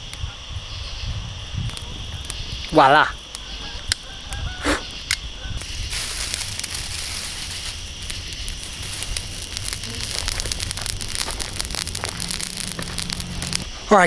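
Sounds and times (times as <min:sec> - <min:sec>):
campfire crackling and popping: 0:01.2 - 0:13.7.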